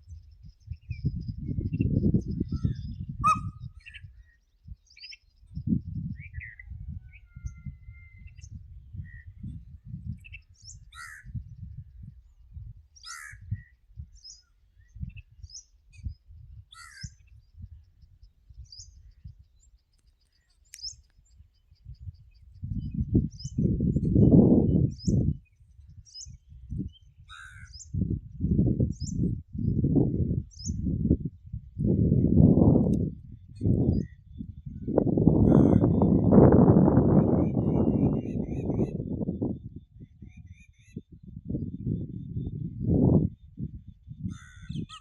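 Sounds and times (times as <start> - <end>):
birds chirping and calling: 0.1 - 29.8, 33.1 - 43.3, 44.0 - 45.0.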